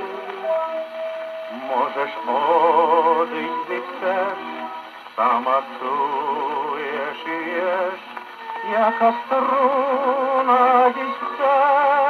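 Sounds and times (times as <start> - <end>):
record surface noise: 0.0 - 12.0
waltz on gramophone: 0.0 - 12.0.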